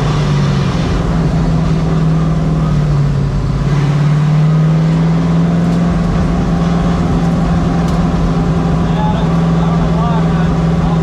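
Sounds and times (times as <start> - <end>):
race truck engine running: 0.0 - 11.0.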